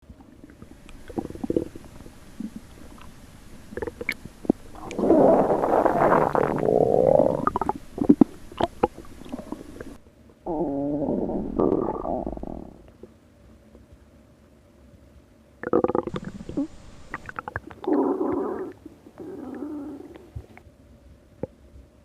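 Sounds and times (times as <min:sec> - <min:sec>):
stomach growling and gurgling: 0:00.4 - 0:13.1, 0:15.6 - 0:20.6.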